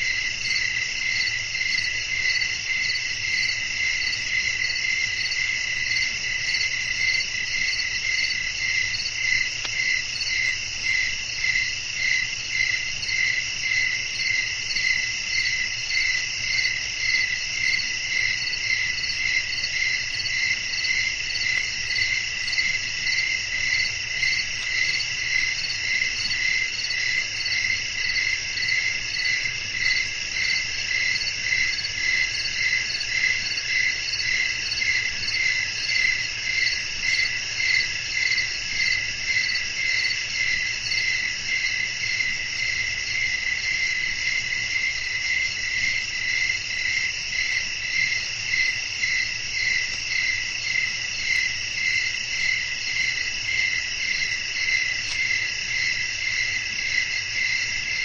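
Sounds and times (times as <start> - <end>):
crickets chirping: 0.0 - 58.0
insects trilling: 0.0 - 58.0.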